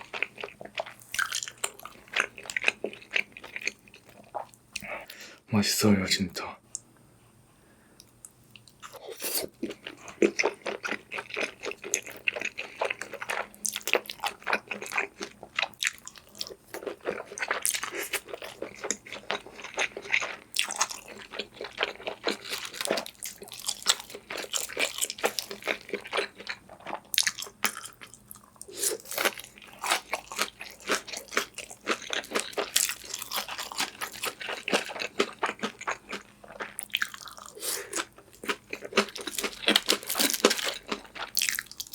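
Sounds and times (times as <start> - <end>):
person chewing crunchy food: 0.0 - 5.2, 8.0 - 41.9.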